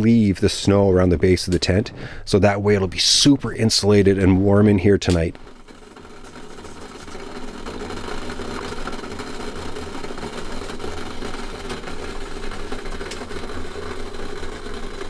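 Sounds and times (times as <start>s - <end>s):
kettle water rumbling: 0.0s - 15.0s.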